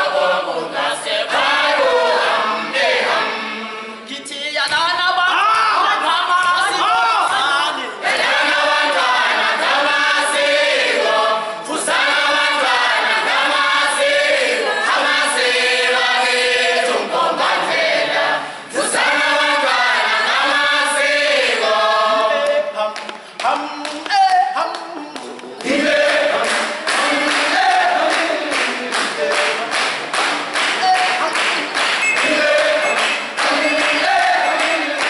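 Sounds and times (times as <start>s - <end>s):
group singing unaccompanied: 0.0s - 4.3s, 5.4s - 23.8s, 25.6s - 35.0s.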